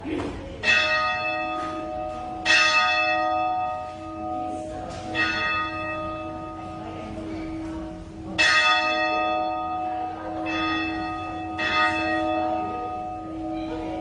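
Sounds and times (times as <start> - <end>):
church bell tolling: 0.6 - 14.0.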